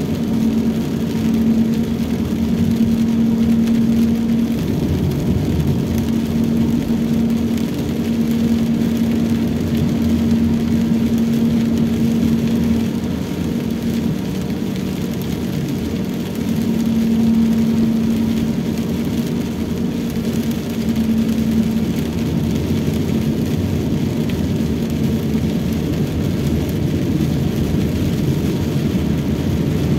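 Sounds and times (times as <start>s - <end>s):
car engine hum: 0.0s - 29.9s
tyre noise on wet road: 0.0s - 29.9s.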